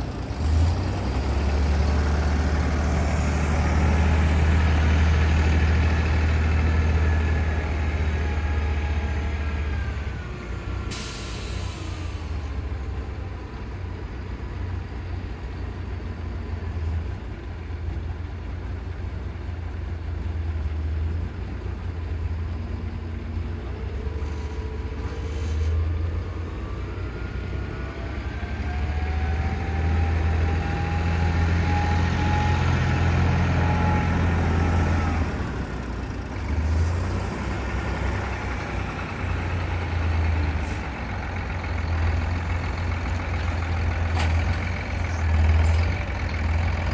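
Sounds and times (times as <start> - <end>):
tractor engine running: 0.0 - 25.4, 26.7 - 46.9
engine whine: 0.0 - 46.9.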